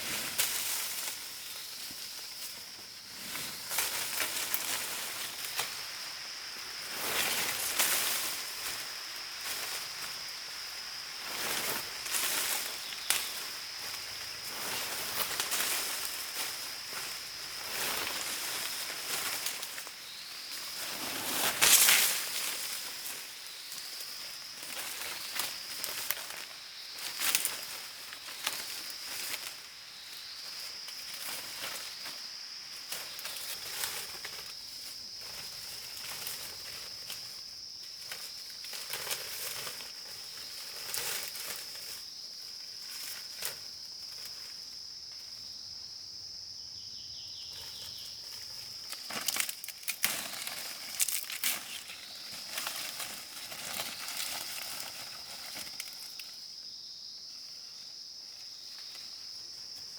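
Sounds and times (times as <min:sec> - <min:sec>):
rustling in dry vegetation: 0:00.0 - 0:46.2, 0:47.2 - 0:59.9
insects droning: 0:00.0 - 0:59.9.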